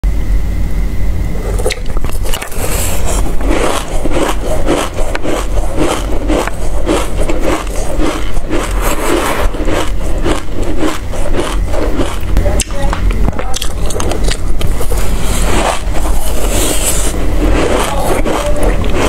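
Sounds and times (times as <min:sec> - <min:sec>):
chewing crunchy seeds: 0:01.3 - 0:19.0.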